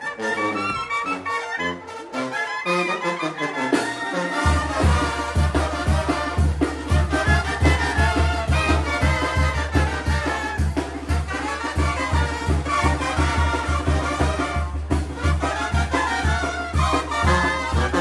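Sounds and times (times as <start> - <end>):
brass band playing dance tune: 0.0 - 18.0.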